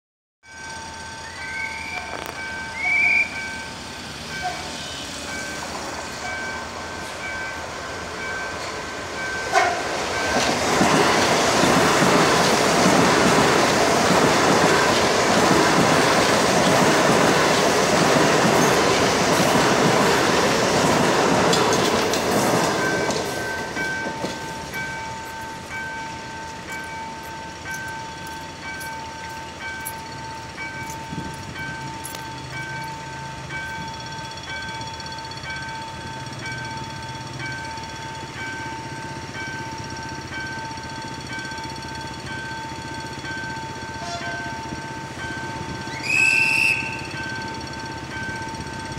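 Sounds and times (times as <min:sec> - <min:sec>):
electric train passing: 0:00.4 - 0:48.9.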